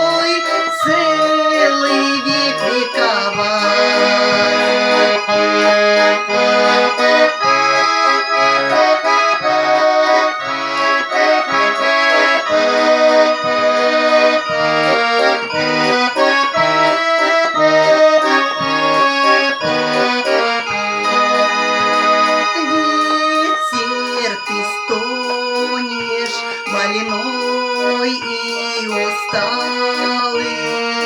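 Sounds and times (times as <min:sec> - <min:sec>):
button accordion playing slow melody: 0:00.0 - 0:31.0.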